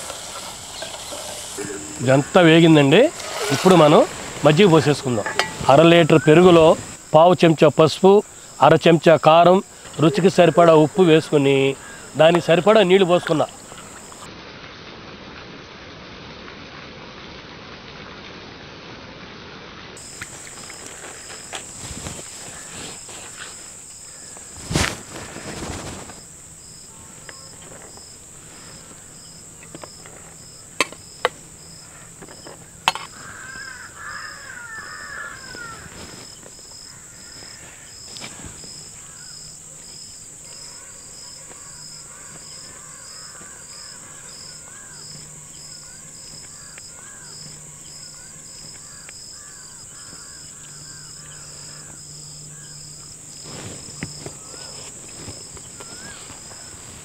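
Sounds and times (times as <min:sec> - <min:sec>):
birds calling: 0:00.0 - 0:14.3, 0:20.0 - 0:57.0
insects chirping: 0:00.0 - 0:14.3, 0:20.0 - 0:57.0.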